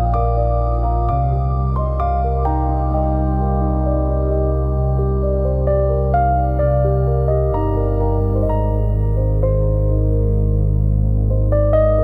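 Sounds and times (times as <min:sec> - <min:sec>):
ambient keyboard music: 0:00.0 - 0:12.0.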